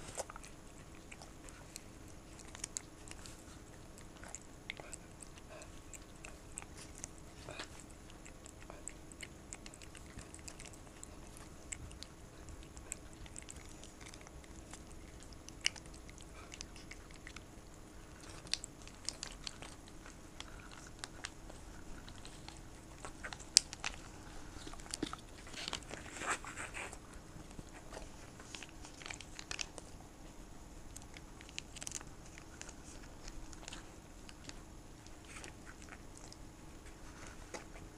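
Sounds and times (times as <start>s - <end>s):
animals licking and smacking: 0.0s - 37.9s.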